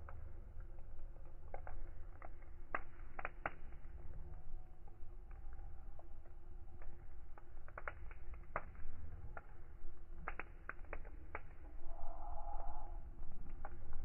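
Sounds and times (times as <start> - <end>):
fire popping and snapping: 0.0 - 14.0
low rumble of burning: 0.0 - 14.0.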